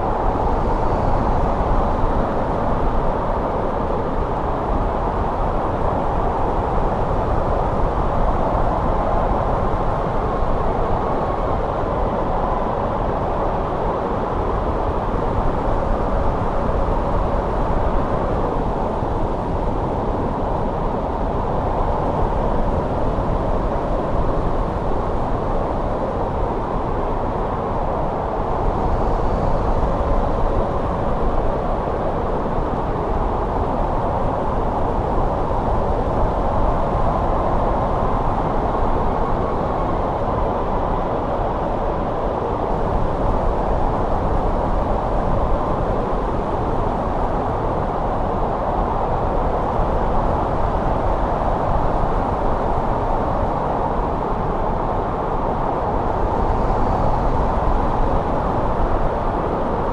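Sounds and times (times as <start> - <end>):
howling wind blowing snow: 0.0 - 59.9.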